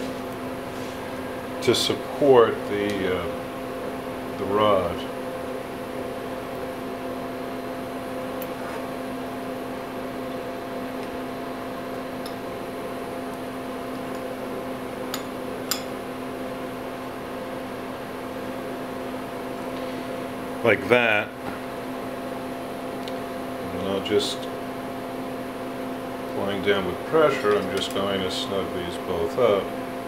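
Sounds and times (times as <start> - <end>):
shop machinery hum: 0.0 - 30.0.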